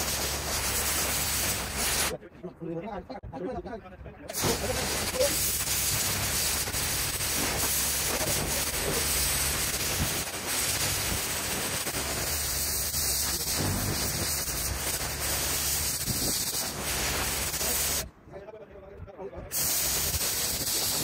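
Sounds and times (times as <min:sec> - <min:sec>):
pressure washer spray hissing: 0:00.0 - 0:02.1, 0:04.3 - 0:18.1, 0:19.5 - 0:21.0.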